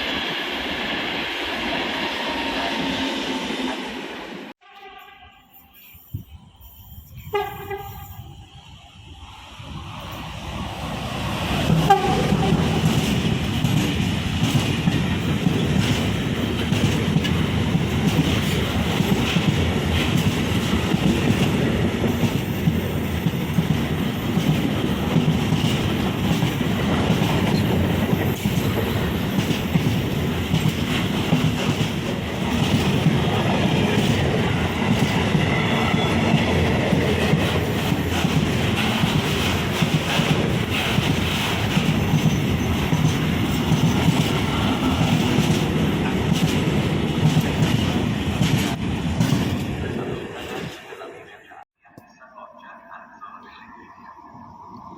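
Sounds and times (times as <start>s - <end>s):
train passing close by: 0.0s - 54.9s.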